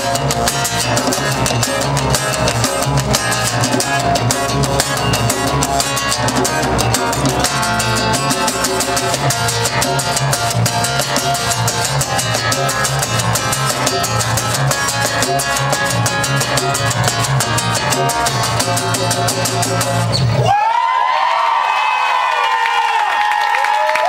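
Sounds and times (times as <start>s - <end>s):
steady drum beat: 0.0s - 20.1s
strummed acoustic guitars: 0.0s - 20.4s.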